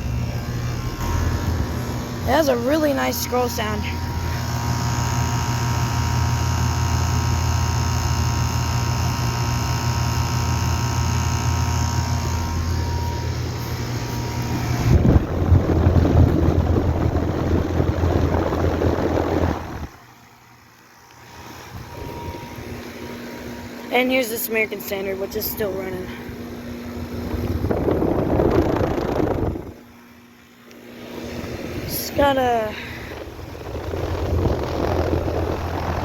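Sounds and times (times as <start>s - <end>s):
fine whining tones: 0.0s - 8.8s, 9.9s - 36.0s
air conditioner condenser humming: 0.0s - 36.0s.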